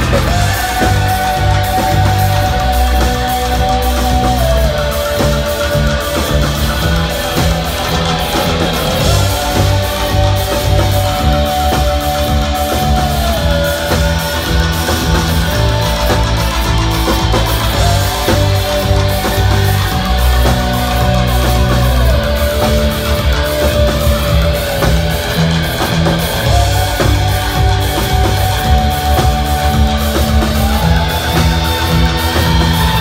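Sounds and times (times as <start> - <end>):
bass guitar: 0.0 - 33.0
drum kit: 0.0 - 33.0
electric guitar: 0.0 - 33.0.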